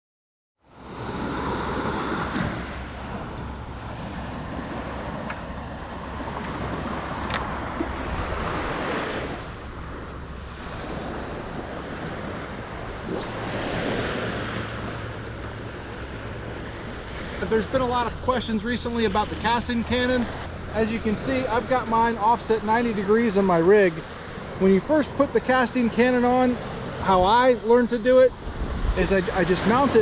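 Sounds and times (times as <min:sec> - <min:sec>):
surf washing onto beach: 0:00.7 - 0:30.0
wind buffeting microphone: 0:00.8 - 0:23.4, 0:28.4 - 0:30.0.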